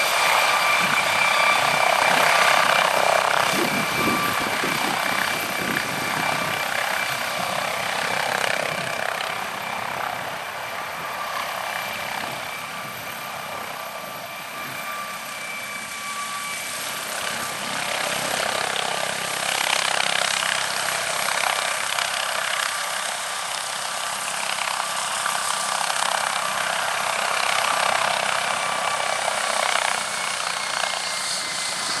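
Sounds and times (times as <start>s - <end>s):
helicopter rotor roar: 0.0s - 32.0s
high turbine whine: 0.0s - 32.0s.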